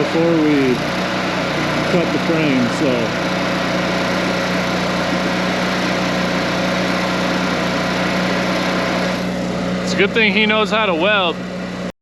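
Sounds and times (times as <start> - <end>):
small engine humming: 0.0 - 11.9.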